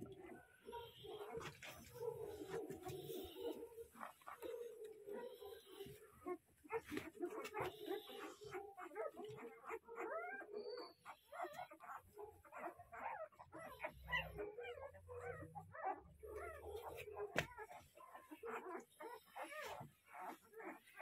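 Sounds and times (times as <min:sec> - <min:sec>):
puppies squeaking and whimpering: 0:00.0 - 0:21.0.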